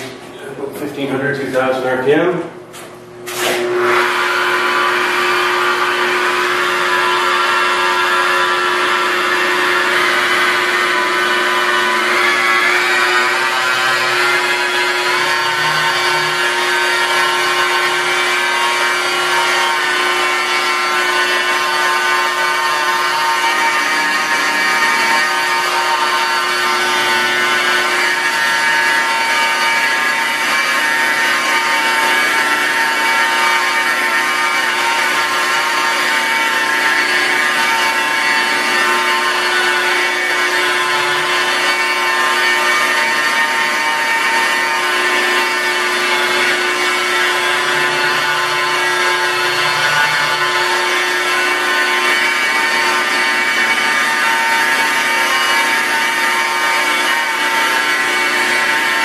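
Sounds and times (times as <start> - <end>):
rotary polisher motor whine: 3.3 - 59.0.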